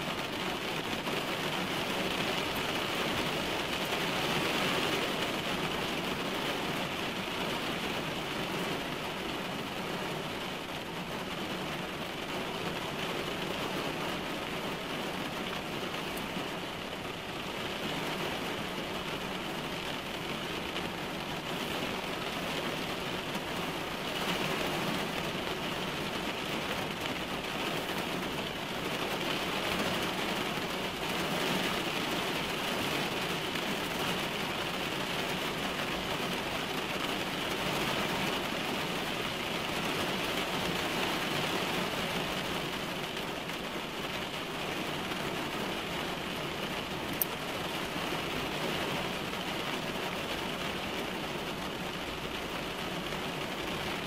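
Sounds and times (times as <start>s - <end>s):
rain drumming on car roof: 0.0s - 54.0s.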